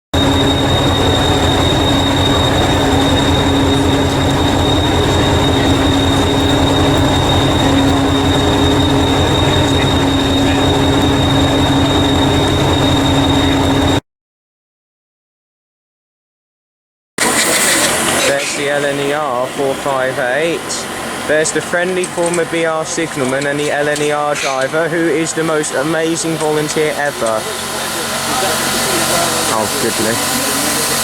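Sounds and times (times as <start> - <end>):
high whine: 0.0 - 14.0, 17.2 - 31.0
train rumbling: 0.1 - 14.0, 17.2 - 31.0.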